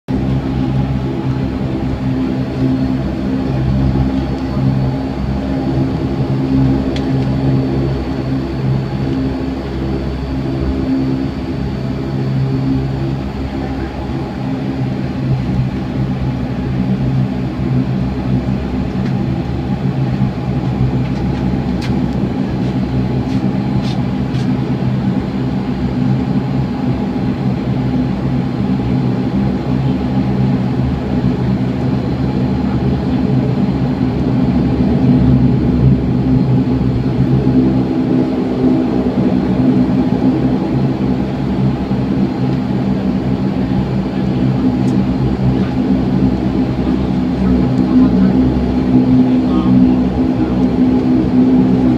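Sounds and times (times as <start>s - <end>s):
propeller drone in aircraft cabin: 0.0s - 51.9s.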